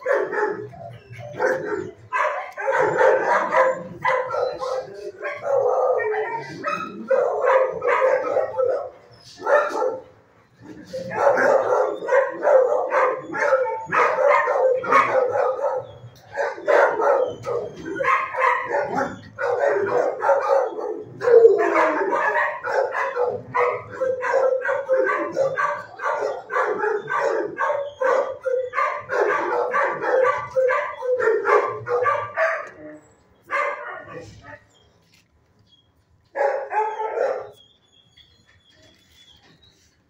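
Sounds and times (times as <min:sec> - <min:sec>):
dogs barking: 0:00.0 - 0:34.6, 0:36.3 - 0:37.6.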